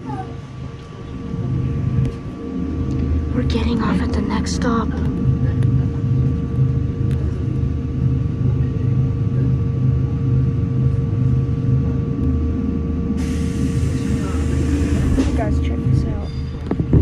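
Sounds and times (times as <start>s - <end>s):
steady whining tones: 0.0s - 17.0s
train equipment rumble and hum: 0.0s - 17.0s.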